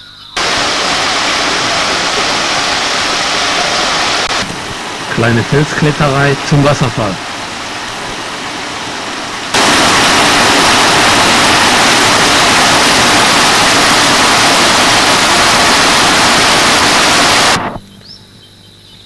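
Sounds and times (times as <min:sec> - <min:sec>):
waterfall rushing: 0:00.4 - 0:17.8.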